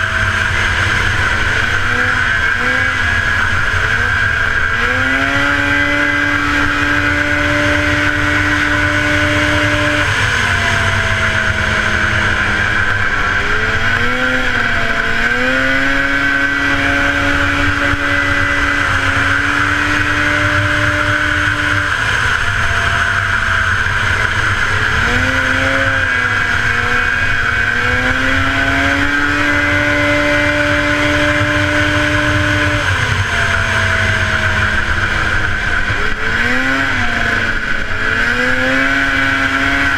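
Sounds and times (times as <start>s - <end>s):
rushing wind and snow: 0.0s - 39.9s
snowmobile engine running hard: 0.0s - 39.9s
steady high whine: 0.0s - 39.9s.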